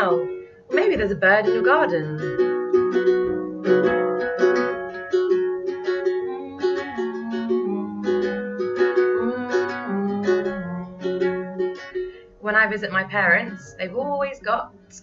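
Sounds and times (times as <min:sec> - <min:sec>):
strummed small string instrument: 0:00.0 - 0:15.0.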